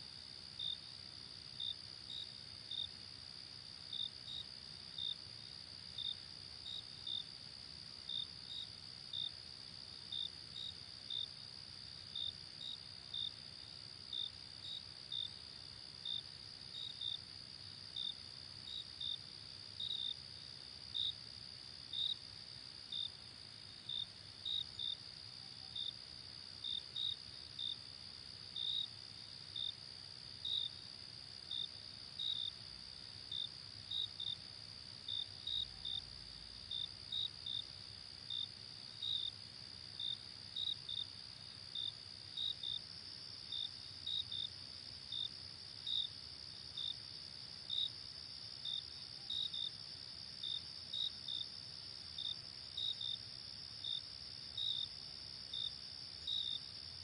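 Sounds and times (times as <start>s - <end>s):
sharp cricket chirps: 0.0s - 57.0s.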